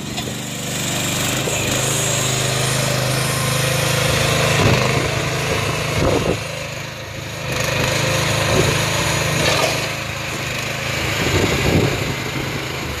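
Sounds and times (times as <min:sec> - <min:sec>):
mini excavator engine running: 0:00.0 - 0:13.0.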